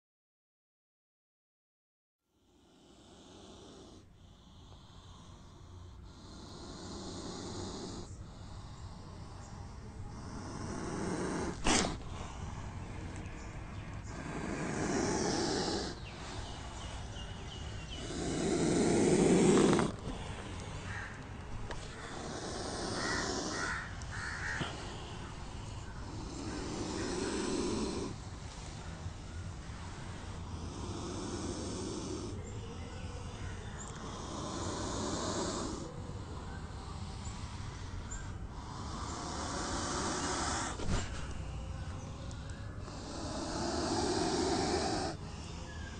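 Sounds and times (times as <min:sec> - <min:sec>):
low rough breathy sound: 0:02.4 - 0:45.9
snake hissing: 0:02.4 - 0:45.9.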